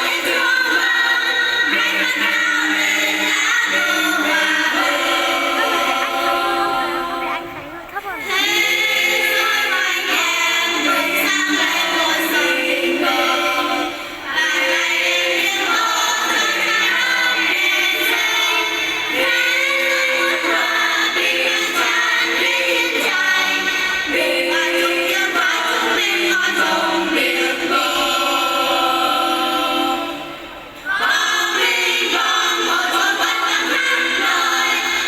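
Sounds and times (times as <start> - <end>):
choir singing in parts: 0.0 - 7.6, 8.2 - 35.0.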